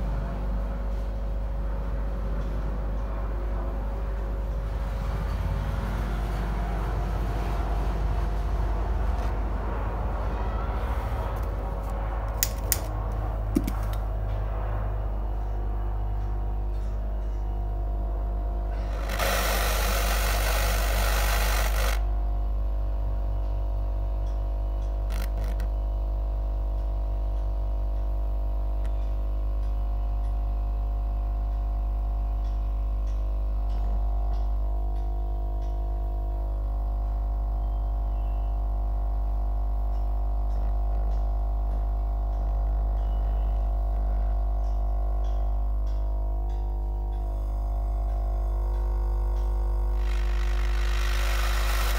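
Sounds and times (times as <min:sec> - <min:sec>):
low mechanical drone: 0:00.0 - 0:51.9.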